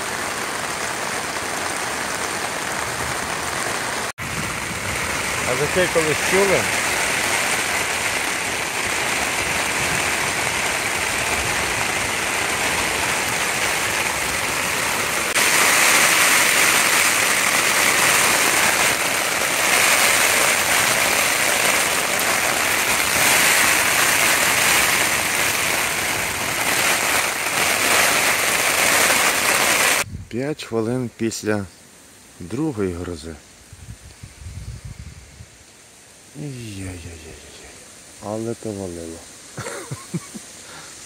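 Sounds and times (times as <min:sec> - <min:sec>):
heavy rain on a tent: 0:00.0 - 0:30.1, 0:35.8 - 0:41.0.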